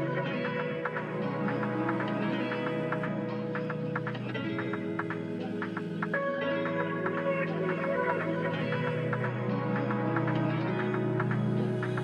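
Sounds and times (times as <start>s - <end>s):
picked notes over held chords: 0.0s - 12.0s.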